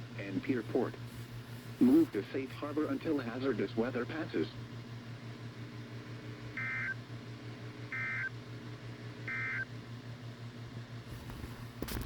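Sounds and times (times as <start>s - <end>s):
low buzzing hum: 0.0s - 12.0s.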